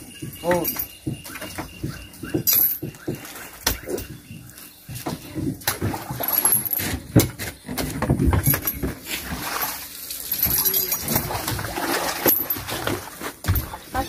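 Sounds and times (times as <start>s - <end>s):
fruit bunches thudding and rustling: 0.1s - 9.9s, 10.5s - 14.0s.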